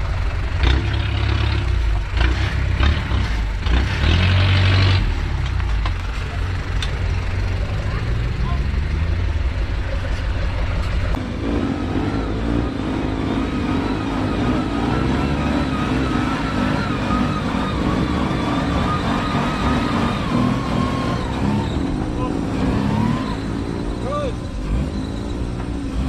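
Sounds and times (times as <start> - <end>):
off-road vehicle engine under load: 0.0 - 26.0.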